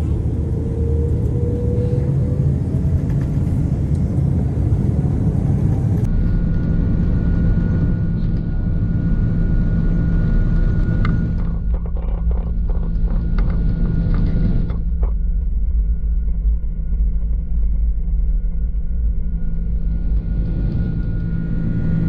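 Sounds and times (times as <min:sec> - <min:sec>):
jet engine low rumble: 0:00.0 - 0:22.0
steady high whine: 0:00.0 - 0:22.0.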